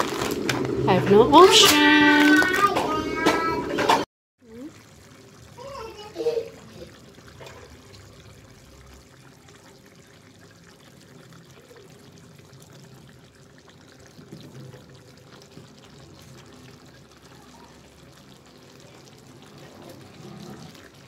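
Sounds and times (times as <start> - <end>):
stew bubbling in a pan: 0.0 - 21.0.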